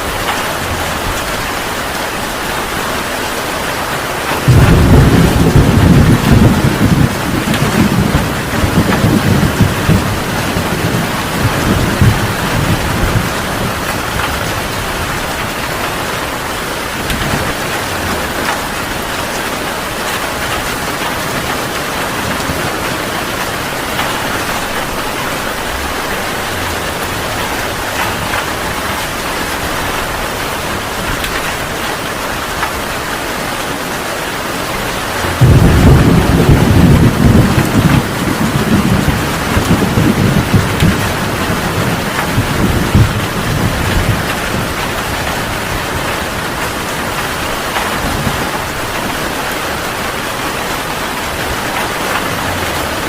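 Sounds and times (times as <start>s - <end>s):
heavy rain falling: 0.0s - 53.0s
thunder rumbling: 0.0s - 53.0s.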